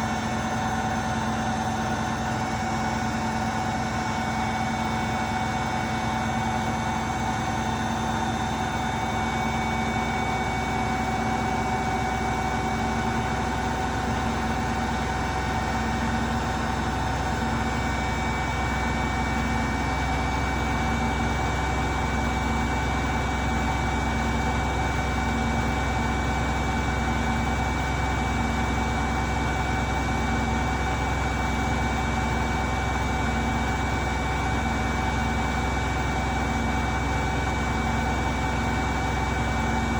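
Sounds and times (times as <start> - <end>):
washing machine spinning: 1.1 - 39.9.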